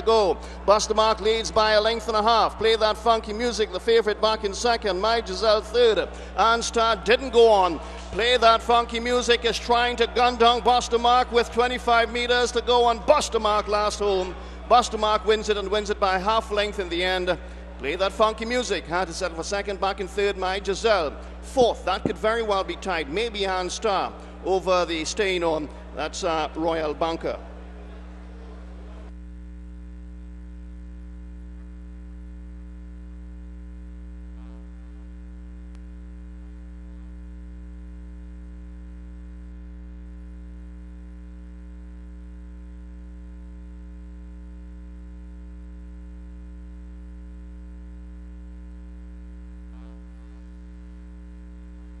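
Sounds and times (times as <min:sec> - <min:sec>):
electrical mains hum: 0:00.0 - 0:52.0.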